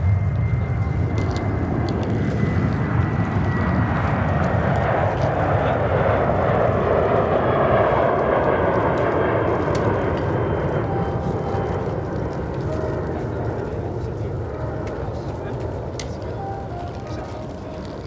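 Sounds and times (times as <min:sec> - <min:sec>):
military aircraft engine roar: 0:00.0 - 0:18.0.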